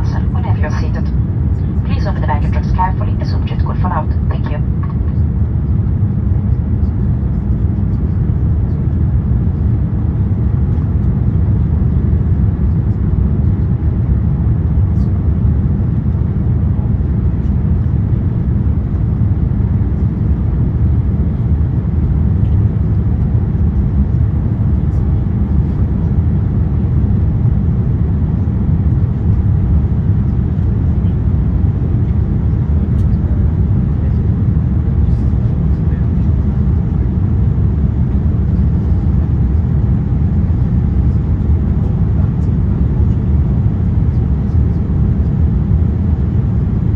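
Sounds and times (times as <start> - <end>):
airplane cabin rumble: 0.0 - 46.9.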